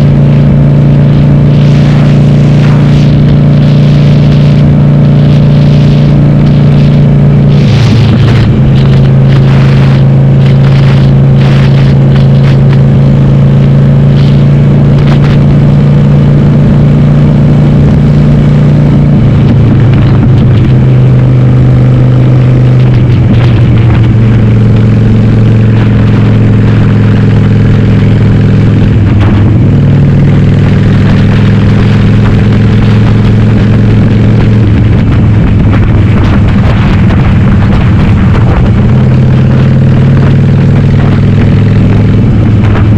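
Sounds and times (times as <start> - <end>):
loud motorcycle engine riding: 0.0 - 42.9.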